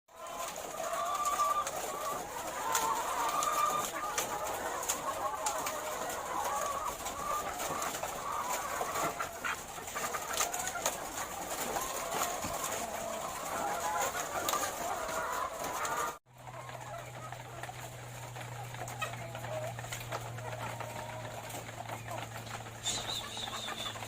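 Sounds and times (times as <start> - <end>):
hens clucking: 0.1 - 24.0.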